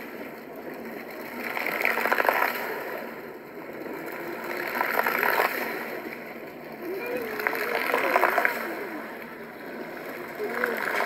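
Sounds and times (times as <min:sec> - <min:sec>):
fountain water jets splashing: 0:00.0 - 0:11.0.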